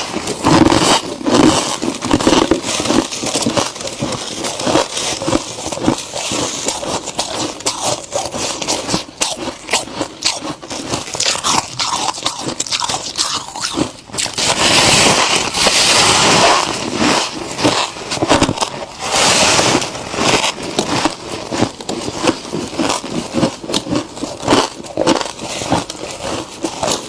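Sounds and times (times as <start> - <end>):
crunching of frost being chewed: 0.0 - 27.0.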